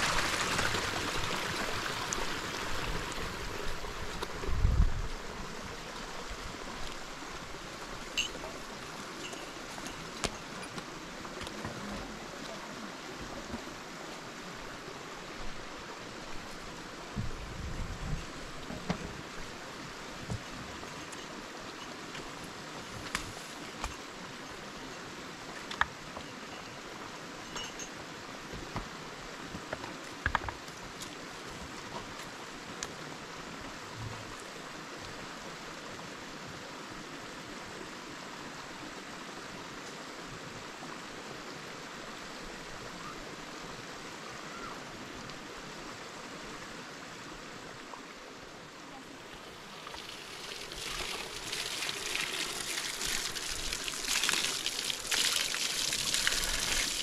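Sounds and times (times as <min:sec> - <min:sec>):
water flowing: 0:00.0 - 0:57.0.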